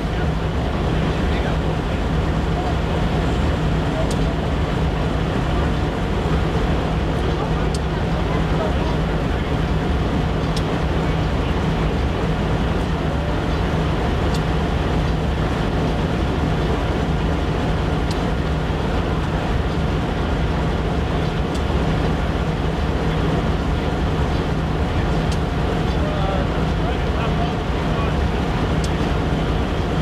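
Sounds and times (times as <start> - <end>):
diesel locomotive idling: 0.0 - 30.0.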